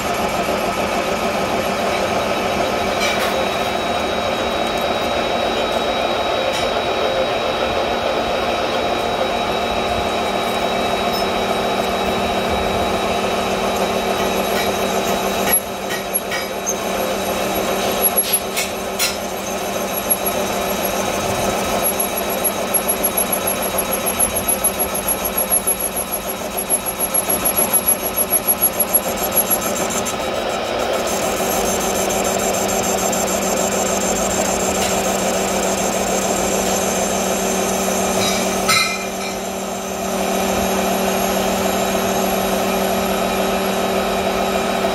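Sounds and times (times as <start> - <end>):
metal lathe cutting iron: 0.0 - 44.9.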